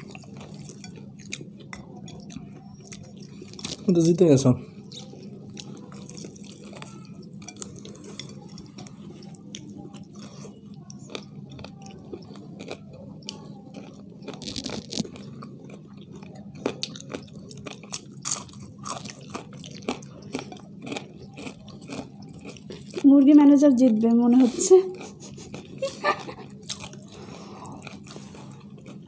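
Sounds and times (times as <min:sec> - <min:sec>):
people chewing crunchy food: 0:00.0 - 0:29.0.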